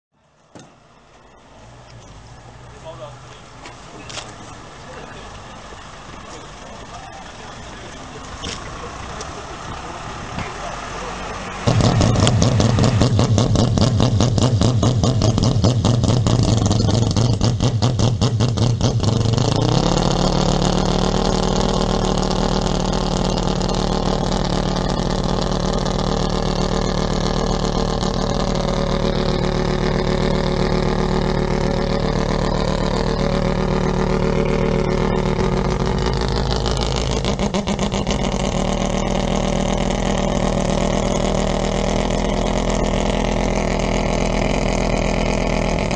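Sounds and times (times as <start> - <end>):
racing engine idling: 0.2 - 45.9.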